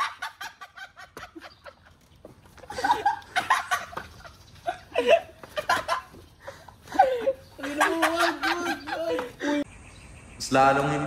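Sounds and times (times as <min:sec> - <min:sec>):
young men laughing: 0:00.0 - 0:09.7.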